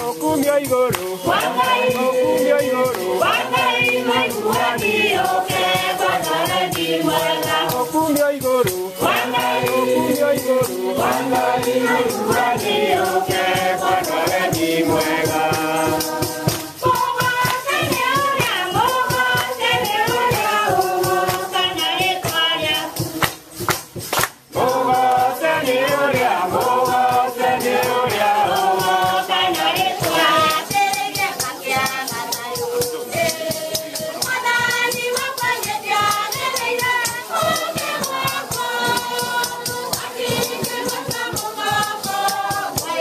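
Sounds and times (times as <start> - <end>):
crowd singing a hymn: 0.0 - 43.0
shaken or clapped percussion: 0.0 - 43.0.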